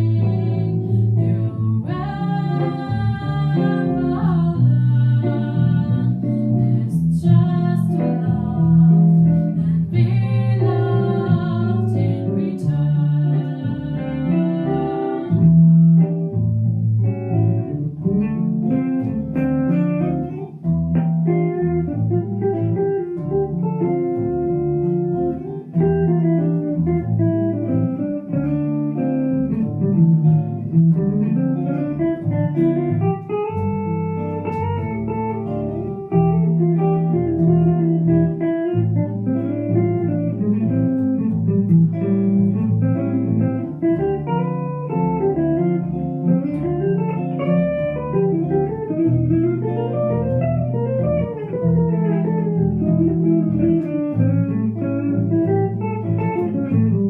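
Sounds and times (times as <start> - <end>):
bass: 0.0 - 57.0
guitar: 0.0 - 57.0
small jazz ensemble playing: 0.0 - 57.0.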